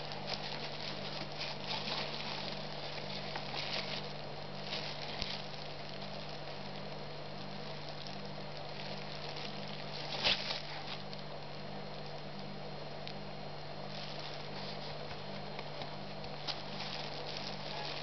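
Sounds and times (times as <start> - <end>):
handling noise: 0.0 - 11.3, 13.9 - 18.0
plastic glove crinkling: 0.0 - 12.3, 13.8 - 18.0.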